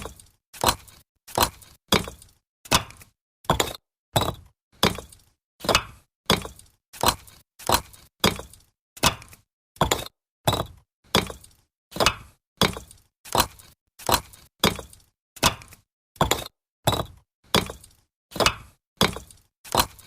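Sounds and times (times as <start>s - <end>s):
bricks clacking when stacked: 0.0s - 20.0s.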